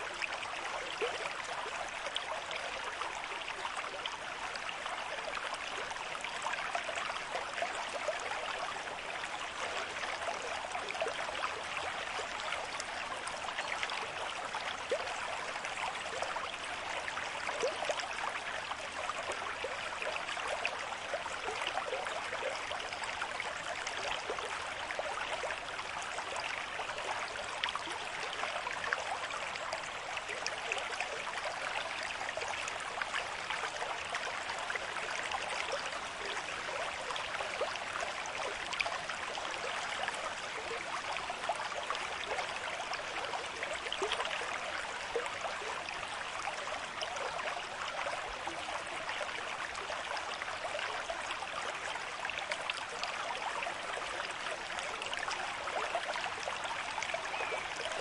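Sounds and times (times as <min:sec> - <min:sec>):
stream splashing over stones: 0:00.0 - 0:58.0.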